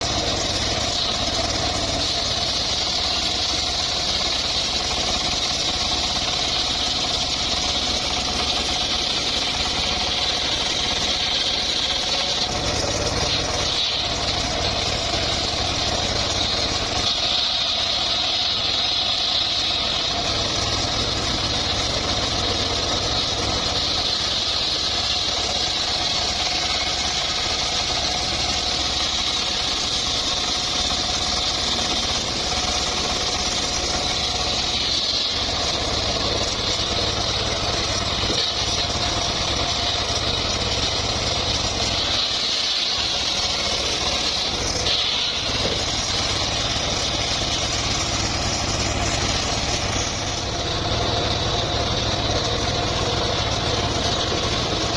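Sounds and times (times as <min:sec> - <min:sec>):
engine rumble: 0:00.0 - 0:54.9
saw cutting whine: 0:00.0 - 0:54.9.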